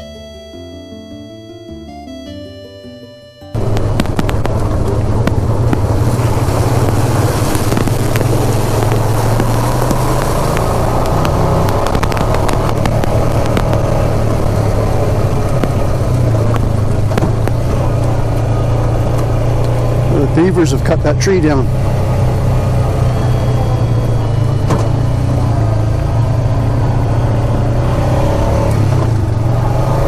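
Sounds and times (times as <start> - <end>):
atv engine running: 3.5 - 30.0.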